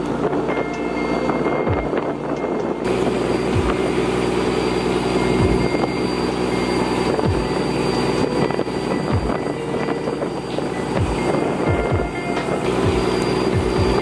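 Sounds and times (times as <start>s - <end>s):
held chord: 0.0s - 14.0s.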